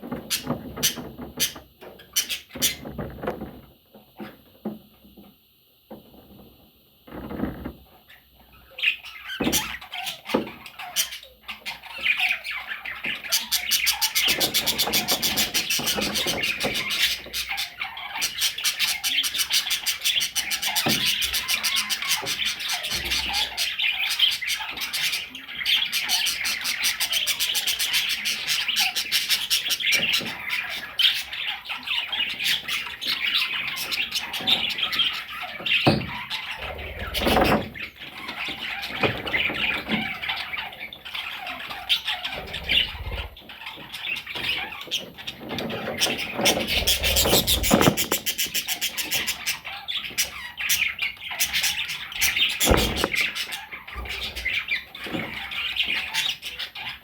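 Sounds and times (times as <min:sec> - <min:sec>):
budgerigars chattering: 0:00.3 - 0:02.9, 0:08.1 - 0:57.0.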